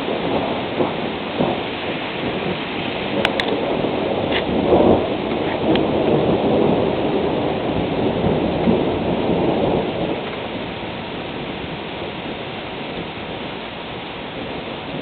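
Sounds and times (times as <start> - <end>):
steady rain falling: 0.0 - 15.0
thunder rumbling: 0.0 - 15.0.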